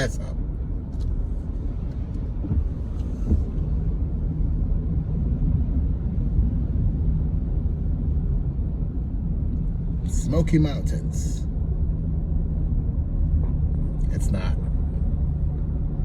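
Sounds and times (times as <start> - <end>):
tyre road noise: 0.0 - 16.0
vehicle engine rumble: 0.0 - 16.0.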